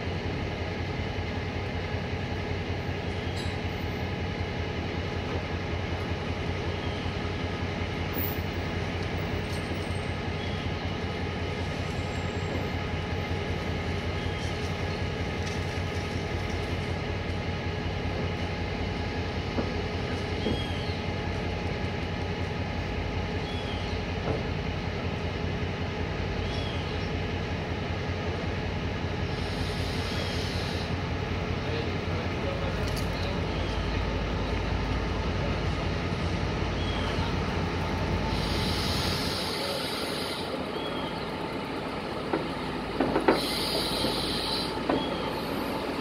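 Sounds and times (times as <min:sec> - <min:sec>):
electric train humming: 0:00.0 - 0:46.0.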